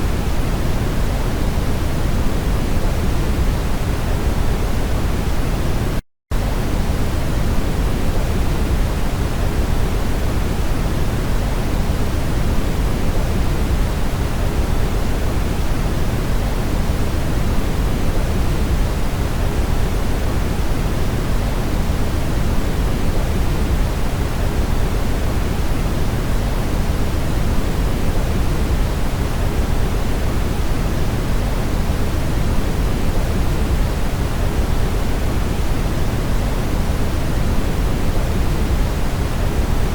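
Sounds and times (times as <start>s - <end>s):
brown noise hiss: 6.4s - 39.9s.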